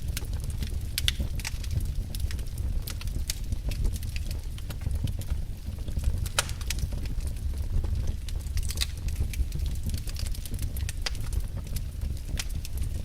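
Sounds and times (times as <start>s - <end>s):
low fire rumble: 0.0s - 13.0s
wood fire crackling and popping: 0.0s - 13.0s.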